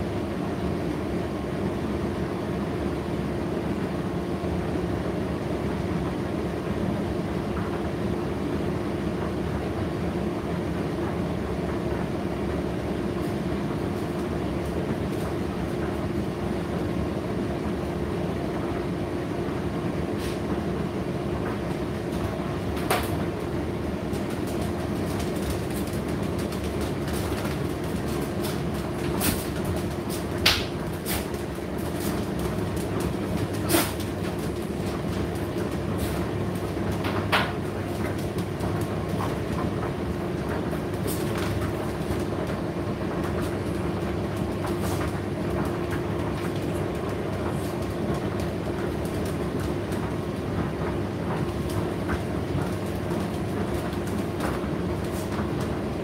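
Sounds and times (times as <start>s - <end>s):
tumble dryer running: 0.0s - 56.0s.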